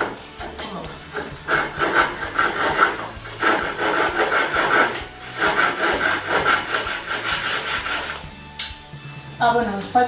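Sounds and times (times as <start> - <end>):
hand saw cutting plaster: 0.0 - 8.3.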